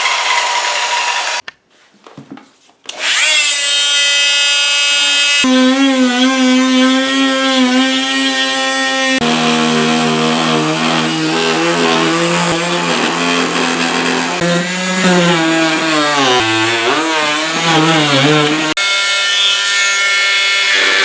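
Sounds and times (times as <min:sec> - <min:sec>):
electric power saw cutting wood: 0:00.0 - 0:01.4, 0:02.9 - 0:21.0.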